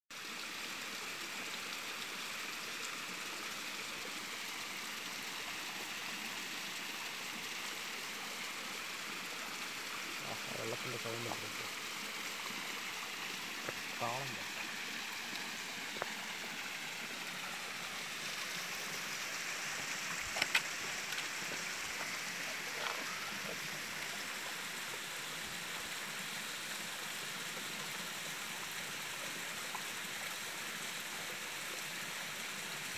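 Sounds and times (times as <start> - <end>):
stream water rushing over rocks: 0.1 - 32.9.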